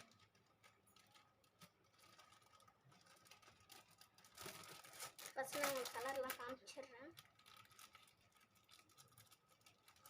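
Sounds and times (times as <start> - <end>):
paper rustling and tapping: 0.0 - 10.0.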